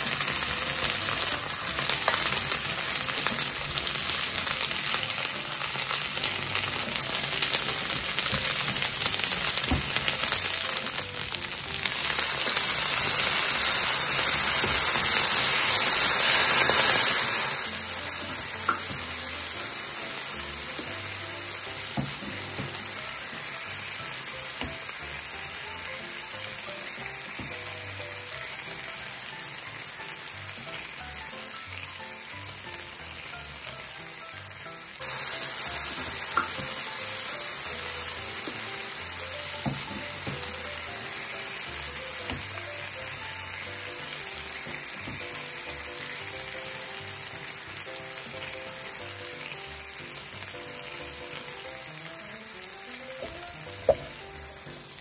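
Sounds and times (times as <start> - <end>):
food sizzling on a griddle: 0.0 - 55.0
soft background music: 0.0 - 55.0.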